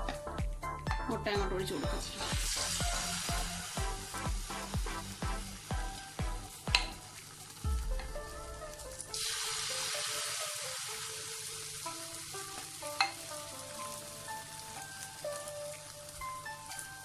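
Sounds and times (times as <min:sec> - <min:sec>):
soft background music: 0:00.0 - 0:17.0
egg sizzling in pan: 0:01.9 - 0:17.0.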